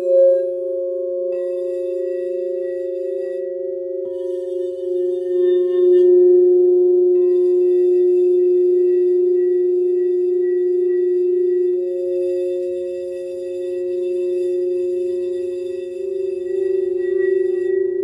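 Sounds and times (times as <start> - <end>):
crystal singing bowls ringing: 0.0 - 18.0.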